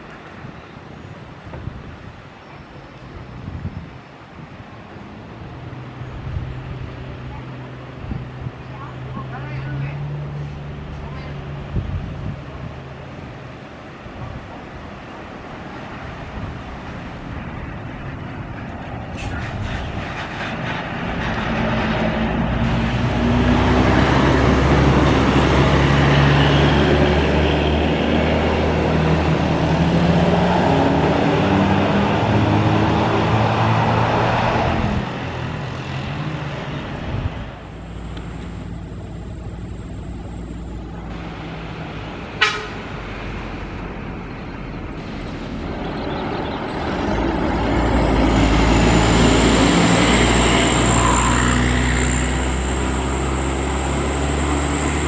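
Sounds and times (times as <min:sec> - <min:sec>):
buses driving past: 0:00.0 - 0:55.0.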